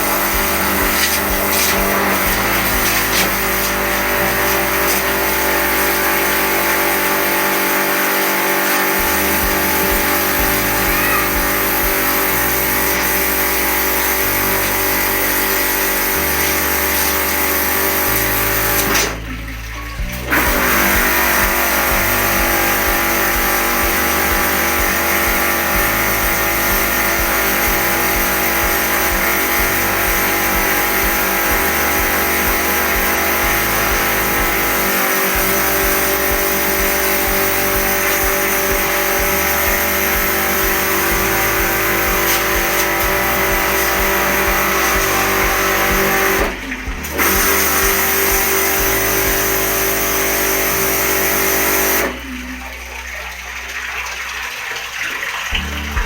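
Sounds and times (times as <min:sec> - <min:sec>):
electric pressure washer running: 0:00.0 - 0:53.0.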